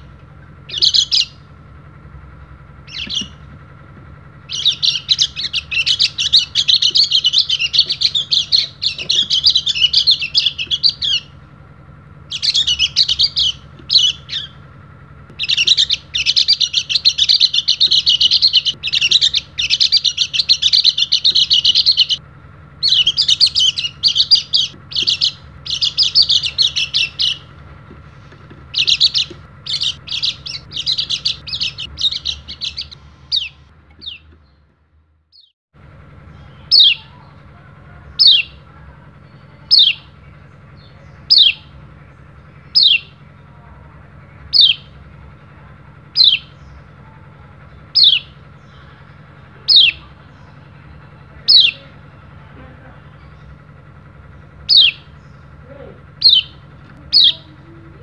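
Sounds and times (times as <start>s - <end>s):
bird twittering song: 0.0s - 1.5s, 2.4s - 11.4s, 12.2s - 22.2s, 22.8s - 34.7s, 35.3s - 35.5s, 36.2s - 58.0s
bird falling call notes: 0.5s - 1.6s, 2.4s - 11.5s, 12.1s - 22.2s, 22.8s - 34.3s, 36.1s - 43.4s, 44.4s - 52.4s, 53.1s - 57.8s.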